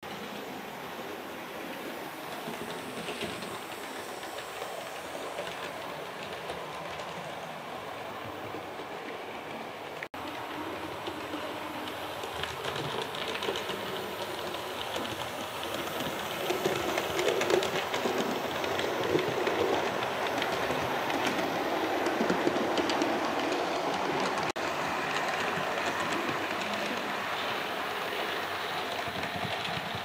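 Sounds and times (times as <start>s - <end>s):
model train rolling rumble: 0.0s - 30.0s
wheels clicking over rail joints: 1.7s - 30.0s.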